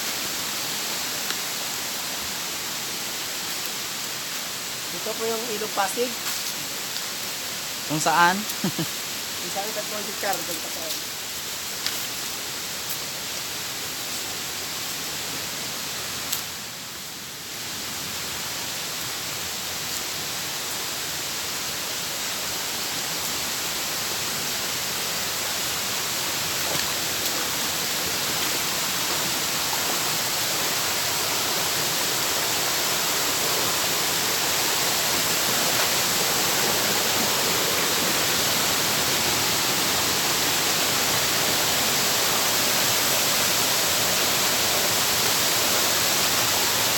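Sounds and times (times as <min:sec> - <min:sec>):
rushing river water: 0:00.0 - 0:46.9.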